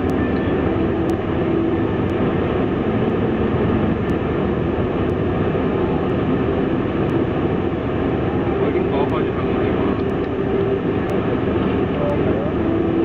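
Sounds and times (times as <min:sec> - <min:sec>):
aircraft cabin rumble: 0:00.0 - 0:13.0
faint hum: 0:00.0 - 0:13.0.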